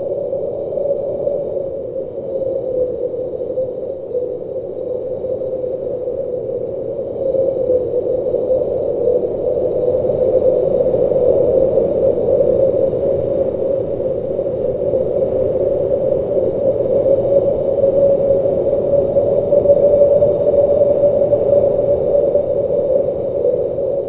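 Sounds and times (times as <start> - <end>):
blizzard wind blowing: 0.0 - 24.0.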